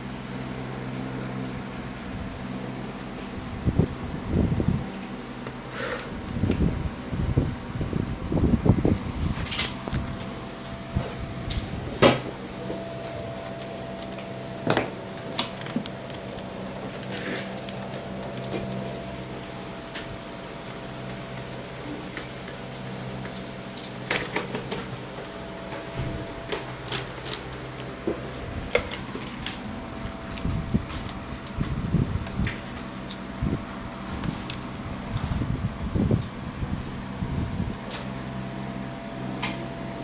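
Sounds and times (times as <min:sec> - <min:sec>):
steady electrical hum: 0:00.0 - 0:40.0.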